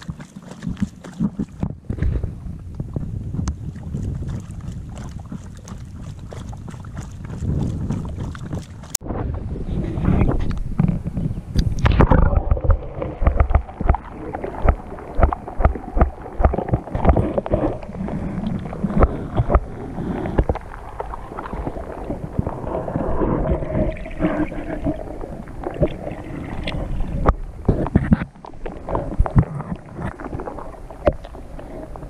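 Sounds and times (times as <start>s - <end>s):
muffled underwater gurgling: 0.0s - 32.0s.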